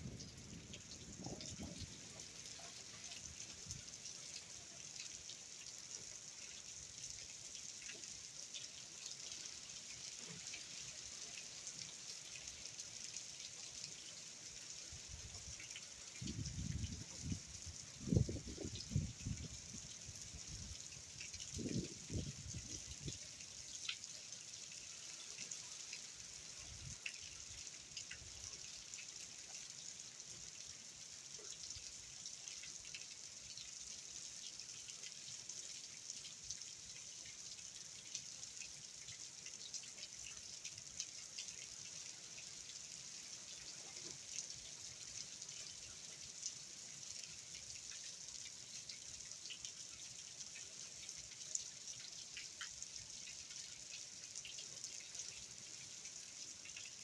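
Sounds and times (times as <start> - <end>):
steady rain hiss: 0.0 - 57.0
water drips and ticks: 0.0 - 57.0.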